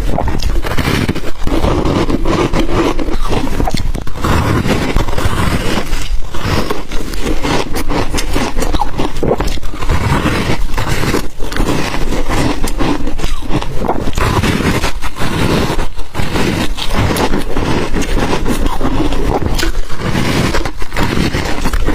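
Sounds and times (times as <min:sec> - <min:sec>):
ice crunching while chewed: 0:00.0 - 0:21.9.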